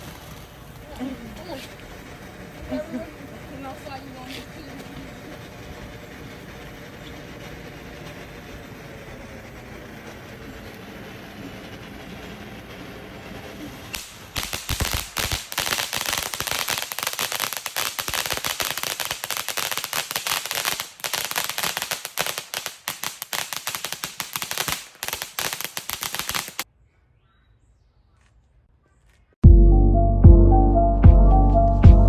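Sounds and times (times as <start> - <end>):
fireworks crackling pops: 0.0 - 26.7.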